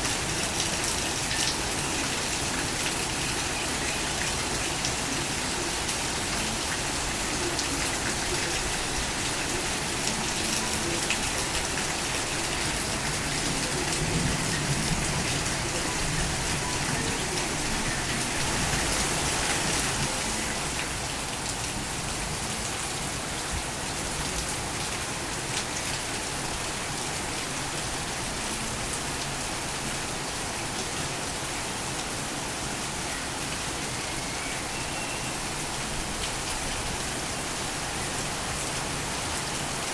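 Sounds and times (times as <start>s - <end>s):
torrential rain: 0.0s - 39.9s.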